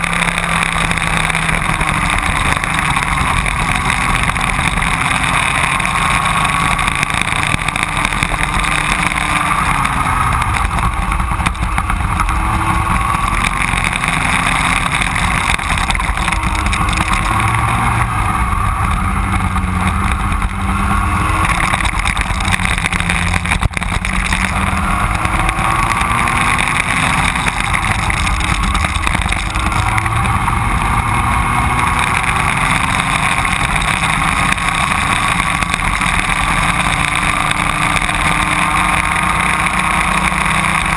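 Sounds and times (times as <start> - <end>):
racing kart engine revving: 0.0 - 40.9.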